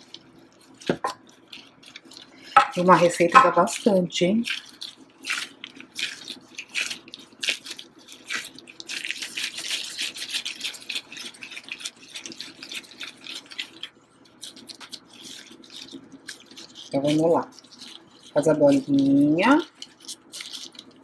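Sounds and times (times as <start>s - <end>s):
dough squishing: 0.0s - 21.0s
plastic gloves crinkling: 0.0s - 21.0s.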